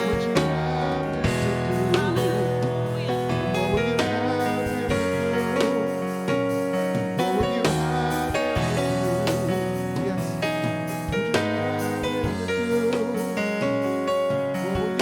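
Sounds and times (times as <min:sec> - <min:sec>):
gospel piano chords: 0:00.0 - 0:15.0.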